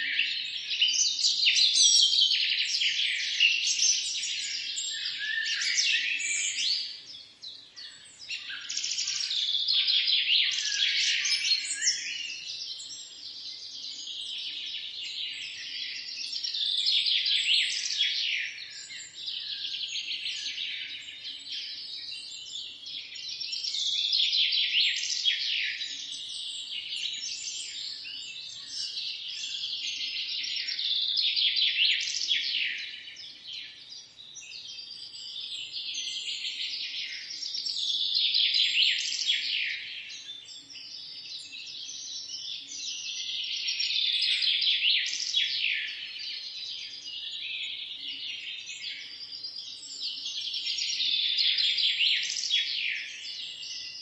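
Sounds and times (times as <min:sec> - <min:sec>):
songbirds chirping chorus: 0:00.0 - 0:54.0.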